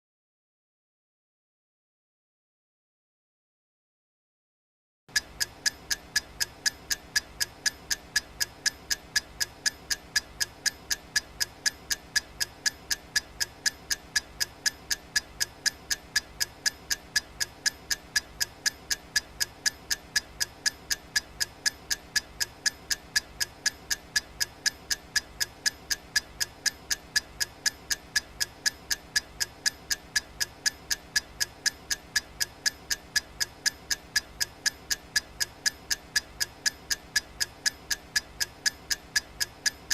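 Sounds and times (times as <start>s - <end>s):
clock ticking: 5.1s - 39.9s.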